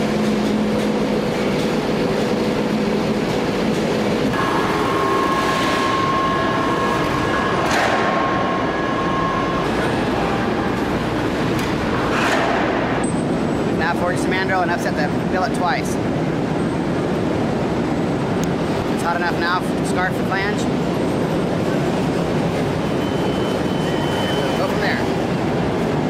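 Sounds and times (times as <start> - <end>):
high machine whine: 0.0 - 26.0
low machine hum: 0.0 - 26.0.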